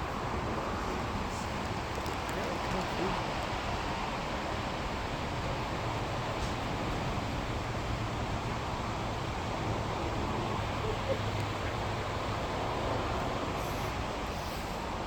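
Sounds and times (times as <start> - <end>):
waterfall roaring: 0.6 - 15.0.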